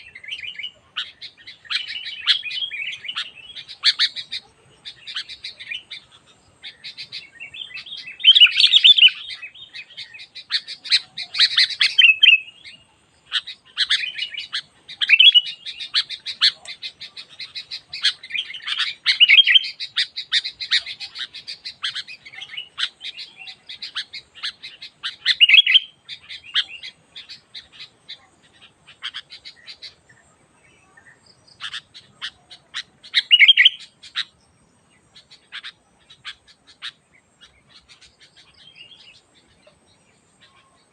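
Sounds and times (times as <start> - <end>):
bulbuls chirping and chattering: 0.0 - 40.9.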